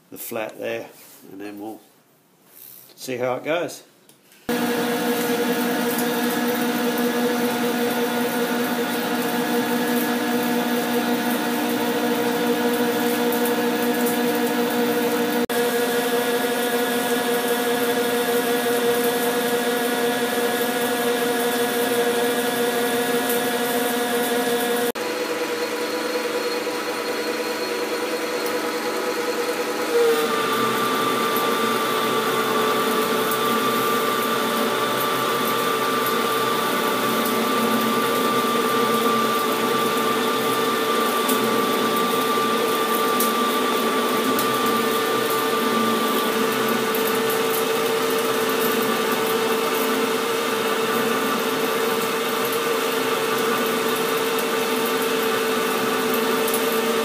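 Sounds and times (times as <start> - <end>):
metal lathe whine: 4.5 - 54.4.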